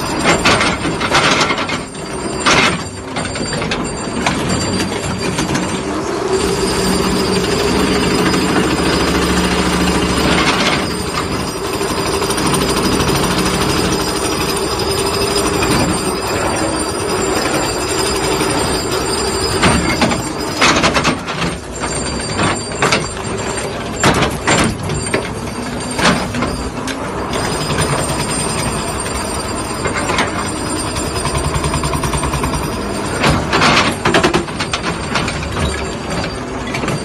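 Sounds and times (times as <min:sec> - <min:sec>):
hydraulic ripper and excavator din: 0:00.0 - 0:37.0.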